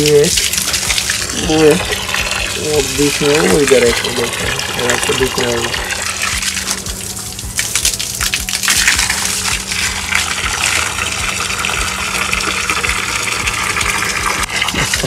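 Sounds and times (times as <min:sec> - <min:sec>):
water gushing from a hose: 0:00.0 - 0:15.0.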